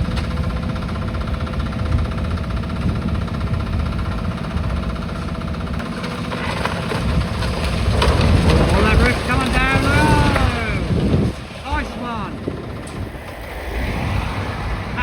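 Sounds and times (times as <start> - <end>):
diesel excavator engine rumbling: 0.0 - 15.0.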